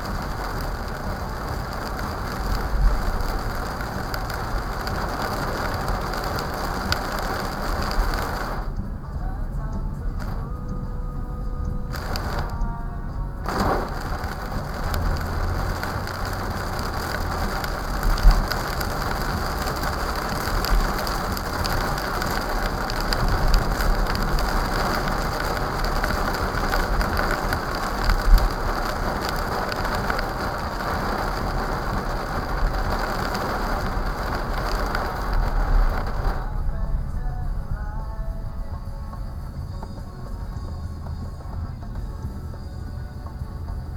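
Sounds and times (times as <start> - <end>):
heavy rain on car roof: 0.0 - 43.9.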